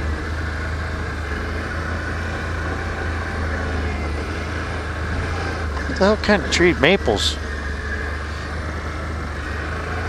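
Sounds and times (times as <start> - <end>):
atv engine droning: 0.0 - 10.0
riding noise rush: 0.0 - 10.0.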